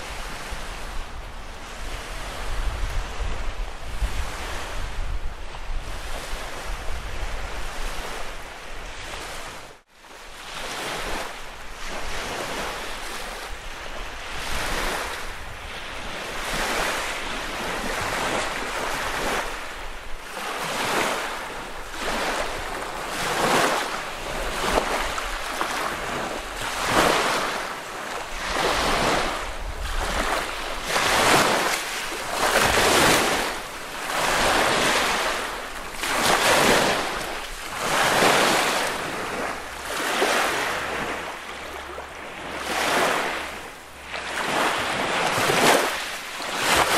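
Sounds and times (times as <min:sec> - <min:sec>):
small waves washing onto beach: 0:00.0 - 0:46.9.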